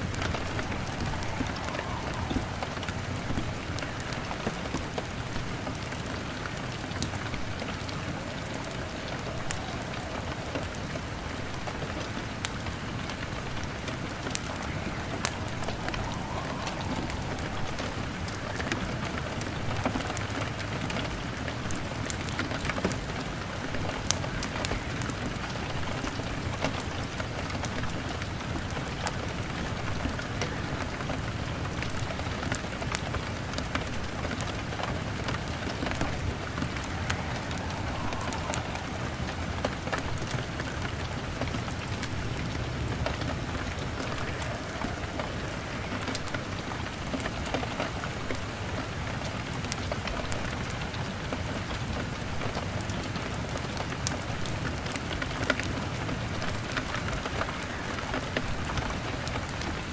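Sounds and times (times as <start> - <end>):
fire crackling: 0.0 - 59.9
rain falling on a window: 0.0 - 59.9.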